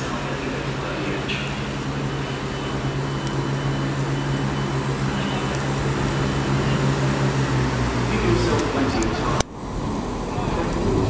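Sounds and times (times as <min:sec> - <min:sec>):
train engine low hum: 0:00.0 - 0:11.0.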